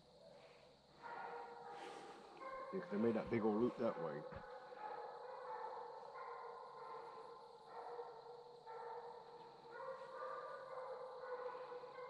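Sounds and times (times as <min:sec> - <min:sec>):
distant hounds barking: 0:00.0 - 0:12.0.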